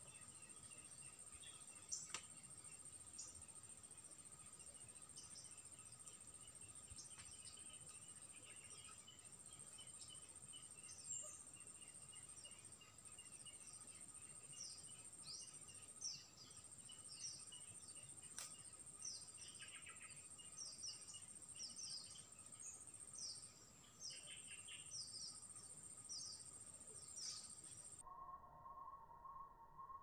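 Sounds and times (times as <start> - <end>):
small bird chirping: 0.0 - 28.1
lower bird chirps: 0.0 - 30.0.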